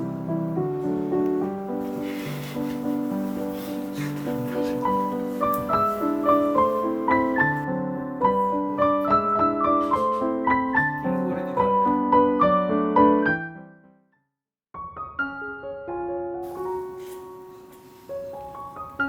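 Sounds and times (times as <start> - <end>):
gentle piano music: 0.0 - 14.0, 14.8 - 19.0.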